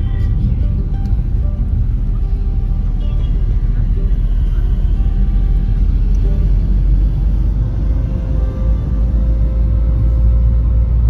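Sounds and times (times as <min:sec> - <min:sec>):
car interior rumble: 0:00.0 - 0:11.0
quiet background music: 0:00.0 - 0:11.0.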